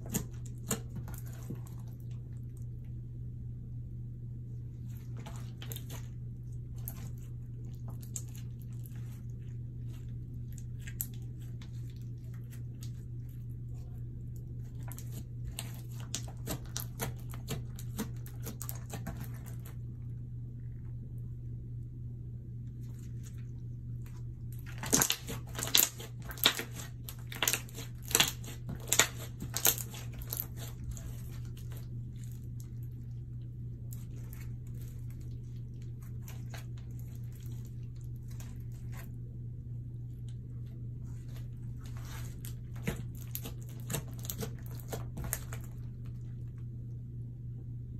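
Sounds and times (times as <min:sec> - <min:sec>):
slime crackling and squelching: 0:00.0 - 0:02.8, 0:04.7 - 0:20.0, 0:22.6 - 0:46.8
low hum: 0:00.0 - 0:47.9.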